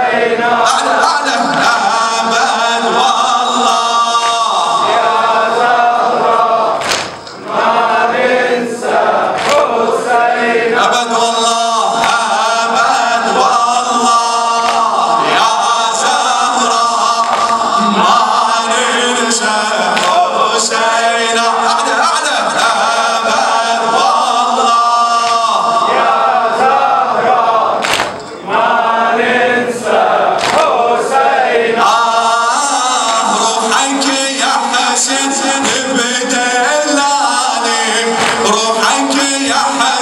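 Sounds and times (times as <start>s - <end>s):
man chanting into a microphone: 0.0s - 6.3s, 9.5s - 26.8s, 29.7s - 40.0s
voices chanting in chorus: 0.0s - 40.0s.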